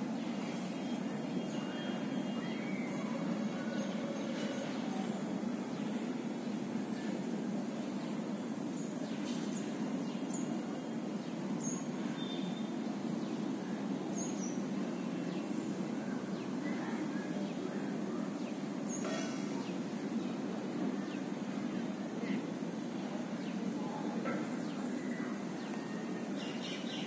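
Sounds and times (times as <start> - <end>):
faint high whine: 0.0 - 26.9.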